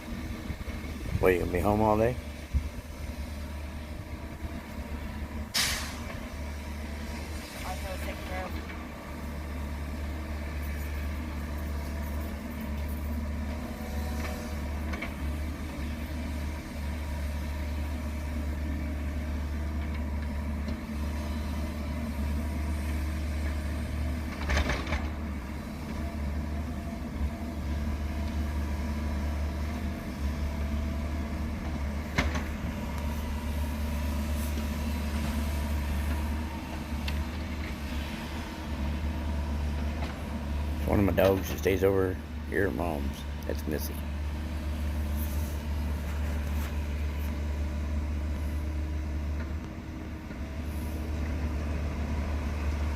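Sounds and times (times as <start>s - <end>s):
heavy vehicle engine running: 0.0s - 52.9s.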